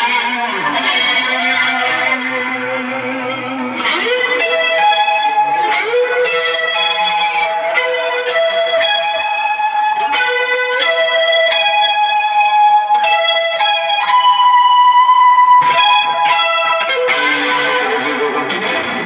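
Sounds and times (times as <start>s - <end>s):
electric guitar lead line: 0.0s - 19.0s.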